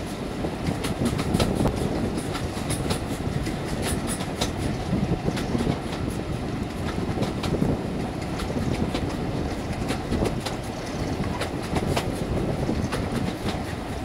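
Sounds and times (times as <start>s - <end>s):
wheels clicking over rail joints: 0.0s - 14.0s
wheels rumbling on rails: 0.0s - 14.0s.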